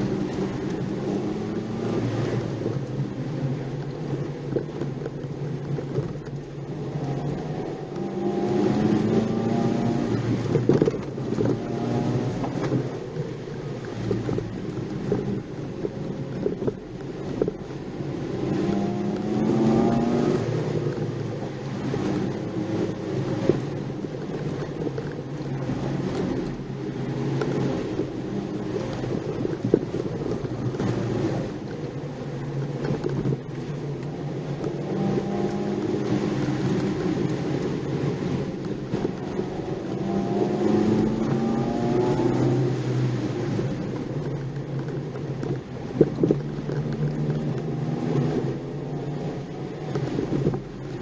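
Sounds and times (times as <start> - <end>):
car engine accelerating: 0.0 - 51.0
road and tyre noise: 0.0 - 51.0
small knocks from rough road: 3.7 - 13.1, 13.7 - 17.7, 23.2 - 51.0.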